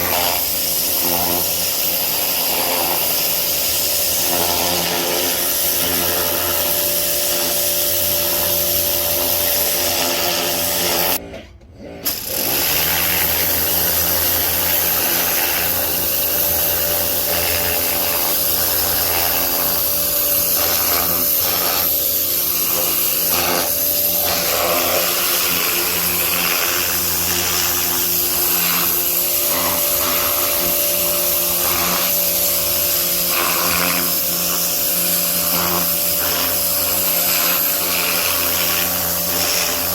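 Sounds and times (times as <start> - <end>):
pressure washer spray hissing: 0.0 - 11.2, 12.0 - 39.9.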